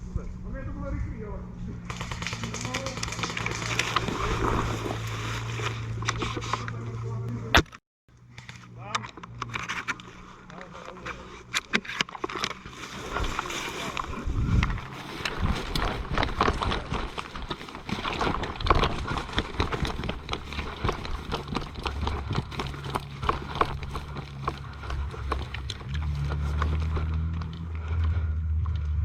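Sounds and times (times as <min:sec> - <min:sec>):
low engine hum: 0:00.0 - 0:29.0
footsteps crunching on rough ground: 0:00.4 - 0:07.8, 0:08.6 - 0:28.2.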